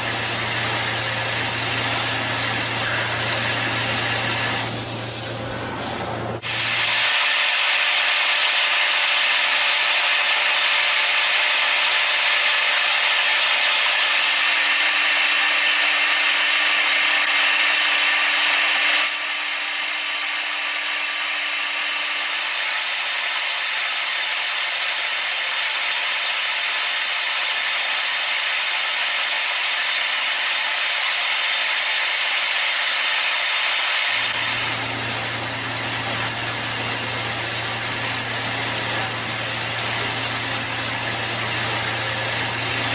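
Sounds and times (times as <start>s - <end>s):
cnc machine cutting: 0.0s - 42.9s.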